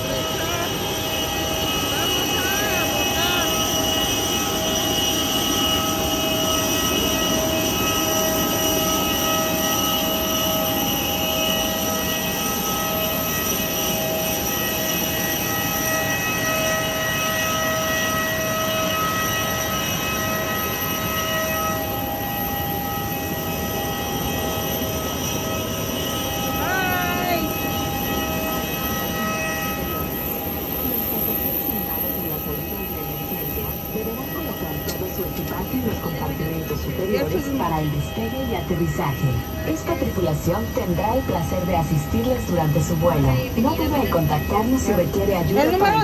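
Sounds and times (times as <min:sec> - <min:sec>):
high whining jet tones: 0:00.0 - 0:46.0.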